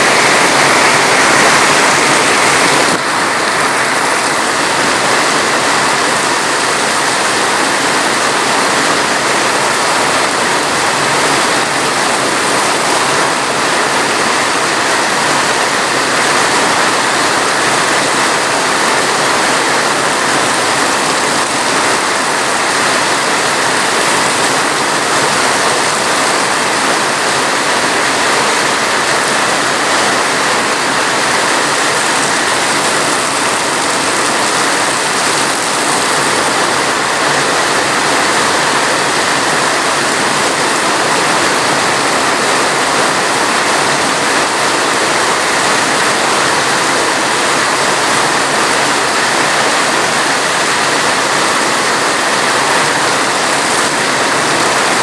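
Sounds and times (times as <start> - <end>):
steady dense rainfall: 0.0 - 55.0.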